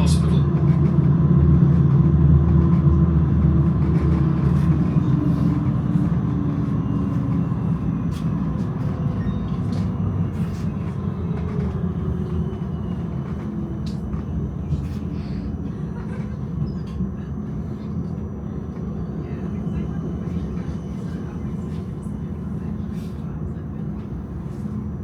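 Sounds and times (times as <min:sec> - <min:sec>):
tram wheels and motors rumbling: 0:00.0 - 0:25.0.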